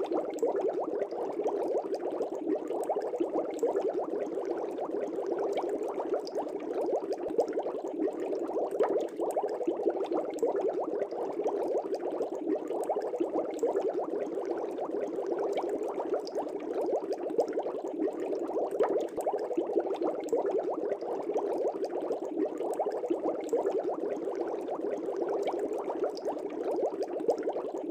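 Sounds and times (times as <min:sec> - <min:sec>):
aquarium air bubbles bubbling: 0:00.0 - 0:27.9.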